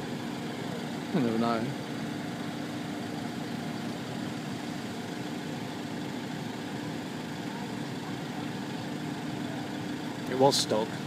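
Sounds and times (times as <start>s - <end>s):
engines idling drone: 0.0s - 11.0s.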